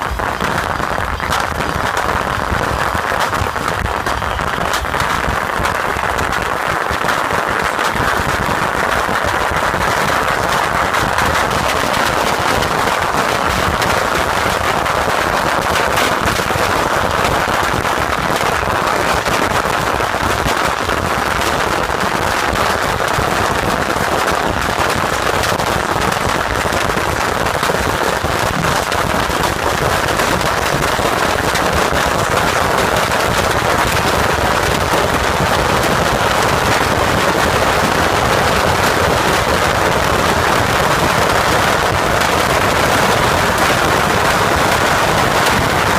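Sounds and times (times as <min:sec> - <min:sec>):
firecrackers and rockets crackling: 0:00.0 - 0:45.9.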